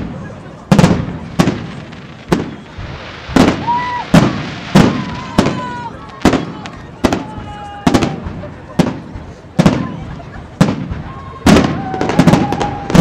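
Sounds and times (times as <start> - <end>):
firework shells bursting: 0.7 - 13.0
faint firework whistles: 1.1 - 13.0.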